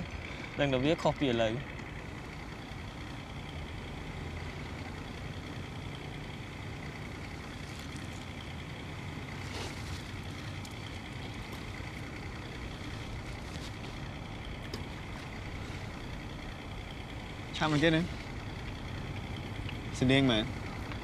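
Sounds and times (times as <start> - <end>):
distant engines rumbling: 0.0 - 21.0.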